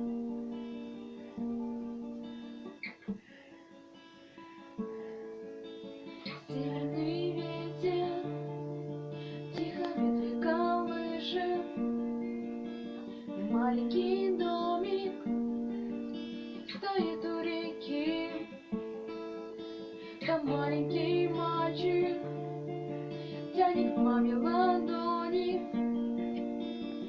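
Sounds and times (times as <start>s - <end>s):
strummed acoustic guitar: 0.0s - 27.0s.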